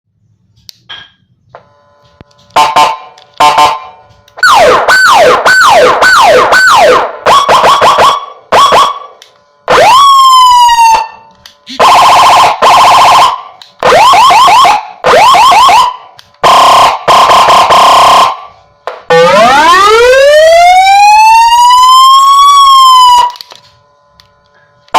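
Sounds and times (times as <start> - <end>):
electronic siren tones: 2.5 - 23.5.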